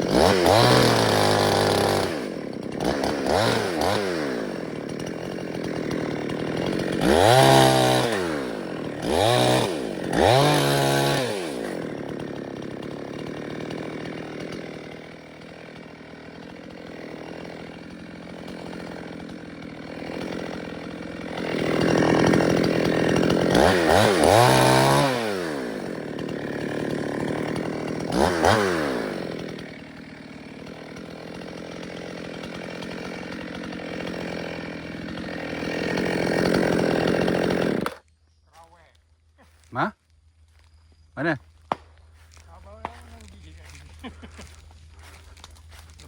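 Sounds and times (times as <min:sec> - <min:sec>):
chainsaw running and revving: 0:00.0 - 0:46.0.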